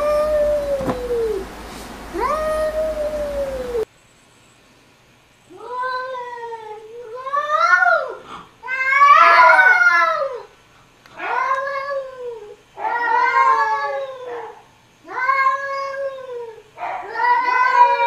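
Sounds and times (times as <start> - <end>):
cats yowling: 0.0 - 1.5, 2.1 - 3.9, 5.6 - 10.5, 11.2 - 18.0.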